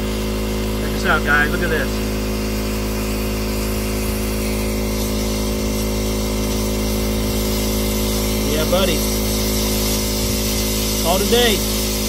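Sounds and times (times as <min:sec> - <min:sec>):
vent cleaning motor humming: 0:00.0 - 0:12.0.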